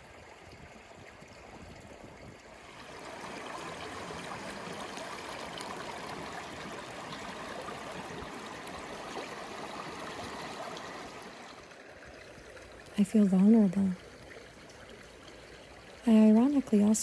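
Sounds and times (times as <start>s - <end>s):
small stream rushing: 0.0s - 17.0s.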